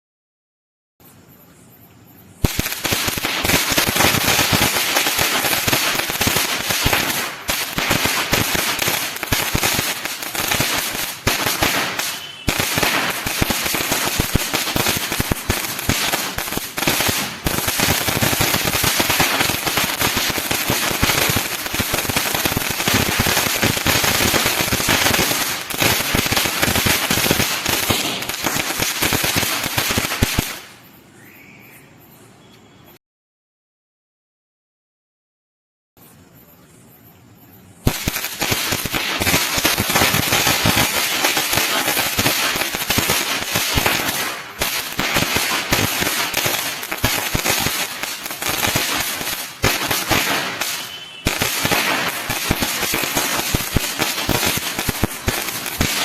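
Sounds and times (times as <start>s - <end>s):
firework crackling: 2.4s - 30.8s, 37.8s - 56.0s.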